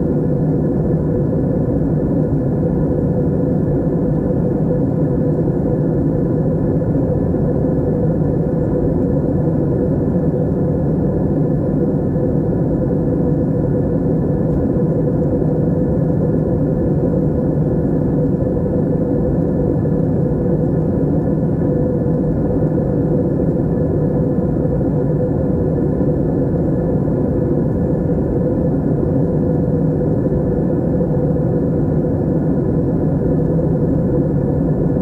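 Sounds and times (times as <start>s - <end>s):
airplane cabin drone: 0.0s - 35.0s.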